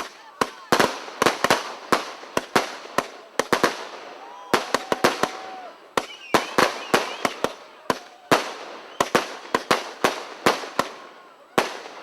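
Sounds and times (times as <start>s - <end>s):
fireworks bangs: 0.0s - 12.0s
fireworks whistles: 0.0s - 12.0s.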